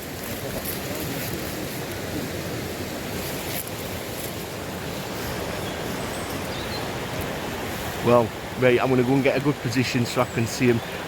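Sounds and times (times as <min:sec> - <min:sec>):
river water rushing over stones: 0:00.0 - 0:11.0.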